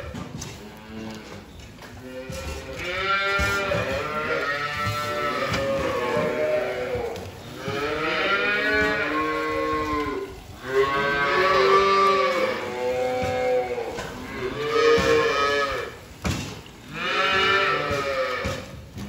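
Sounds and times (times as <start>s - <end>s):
calves bawling: 0.0s - 19.0s.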